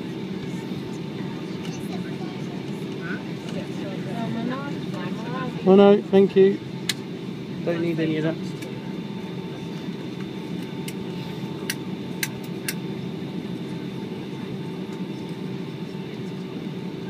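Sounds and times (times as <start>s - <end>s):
aircraft engine hum with whine: 0.0s - 17.0s.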